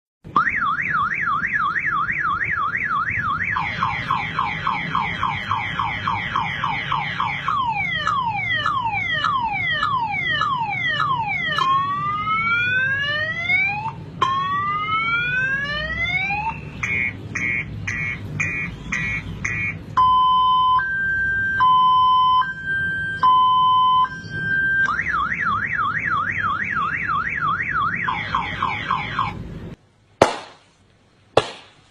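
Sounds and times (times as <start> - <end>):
electronic car alarm siren: 0.3 - 29.4.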